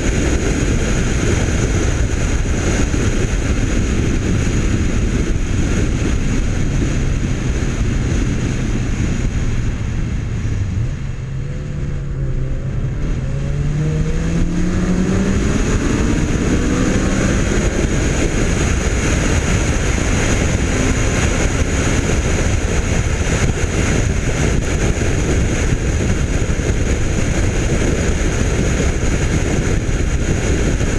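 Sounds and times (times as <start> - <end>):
car engine accelerating hard: 0.0 - 30.9
wind rush over microphone: 0.0 - 30.9.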